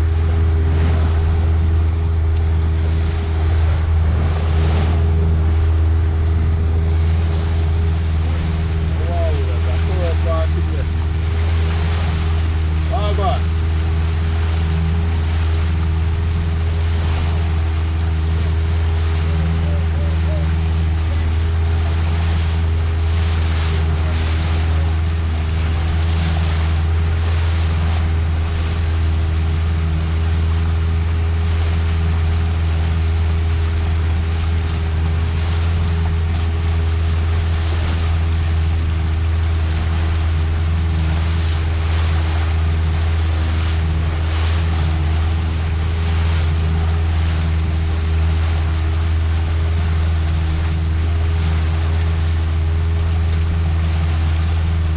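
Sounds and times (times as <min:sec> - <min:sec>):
boat engine droning: 0:00.0 - 0:54.9
hull swishing through waves: 0:00.0 - 0:54.9.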